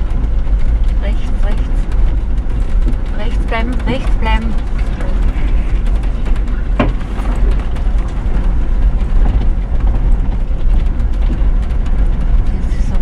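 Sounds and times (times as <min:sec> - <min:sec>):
clicks and knocks from bumpy ground: 0:00.0 - 0:13.0
vehicle engine and tyre rumble: 0:00.0 - 0:13.0.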